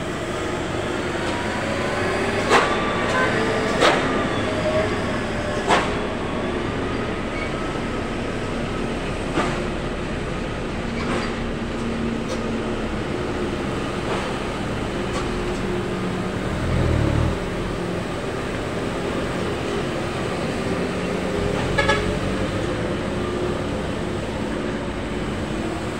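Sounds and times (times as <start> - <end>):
diesel truck engine rumble: 0.0 - 25.9.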